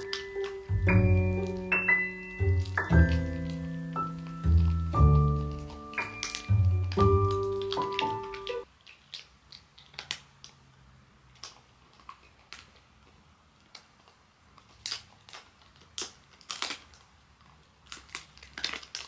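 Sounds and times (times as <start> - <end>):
dog chewing with sharp clicks: 0.0 - 19.0.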